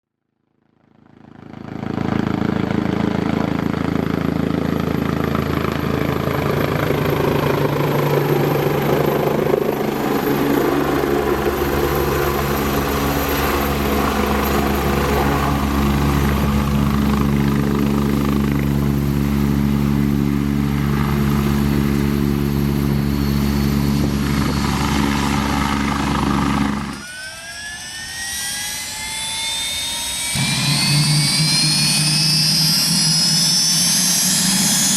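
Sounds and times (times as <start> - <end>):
model helicopter rotor whine: 0.7 - 34.9
rising whine: 2.3 - 34.9.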